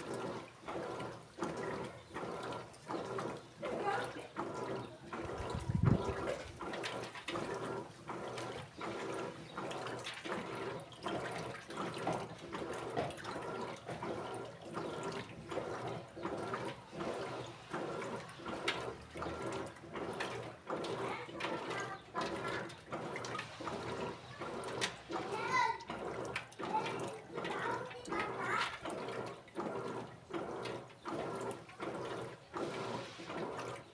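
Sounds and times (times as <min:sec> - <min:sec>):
washing machine water swishing: 0:00.0 - 0:33.9.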